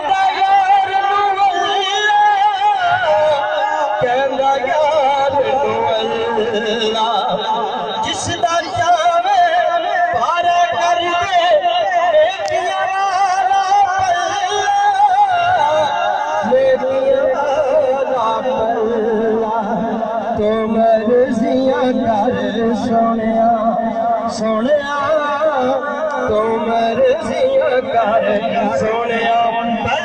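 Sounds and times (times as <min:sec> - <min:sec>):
man singing: 0:00.0 - 0:30.0.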